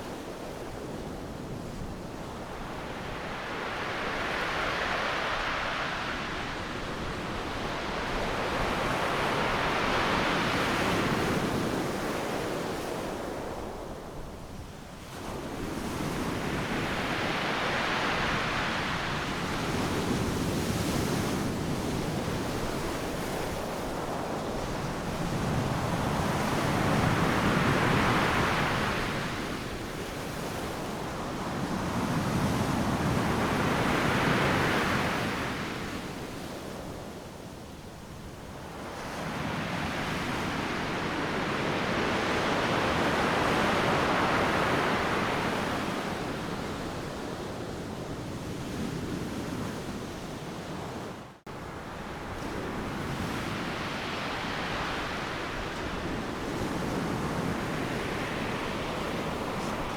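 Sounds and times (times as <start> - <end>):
ocean waves breaking on beach: 0.0 - 14.4, 15.0 - 37.2, 38.4 - 59.9.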